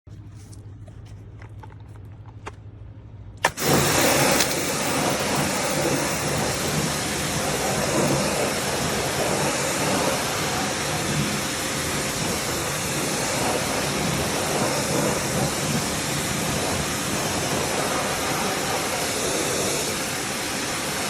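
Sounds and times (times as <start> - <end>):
high-pressure water jet hissing: 3.4 - 21.0
pressure washer engine humming: 3.4 - 21.0.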